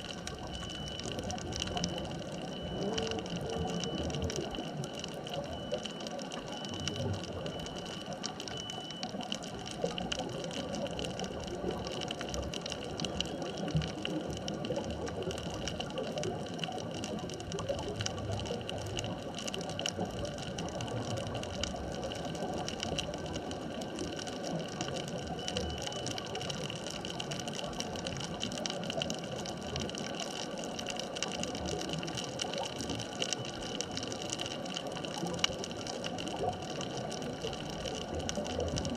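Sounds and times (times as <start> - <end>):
crackling clicks: 0.0 - 38.9
underwater water noise: 0.0 - 38.9.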